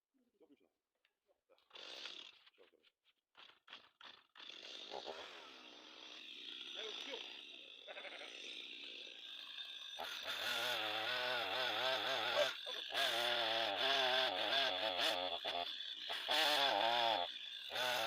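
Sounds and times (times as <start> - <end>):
chainsaw cutting tree trunk: 1.7 - 2.5, 3.4 - 18.0.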